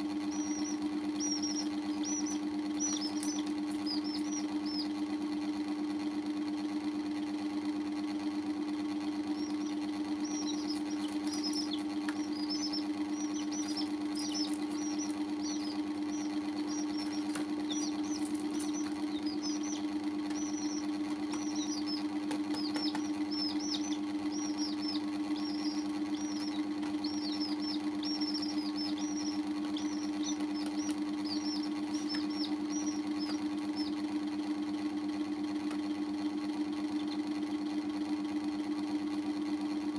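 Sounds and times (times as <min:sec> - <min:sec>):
chicks peeping: 0:00.0 - 0:06.3, 0:08.9 - 0:36.0, 0:36.7 - 0:37.8
loud machine hum: 0:00.0 - 0:39.9.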